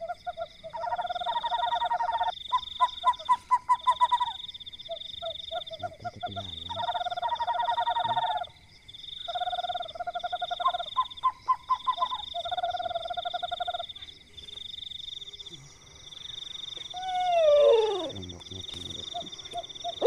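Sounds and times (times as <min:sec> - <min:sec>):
frogs calling: 0:00.0 - 0:20.0.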